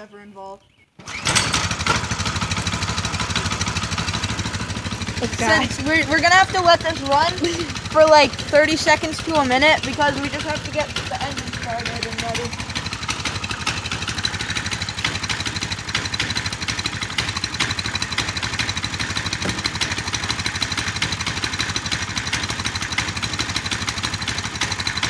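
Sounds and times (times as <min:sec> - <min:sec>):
mini bike engine idling: 0:01.0 - 0:25.0.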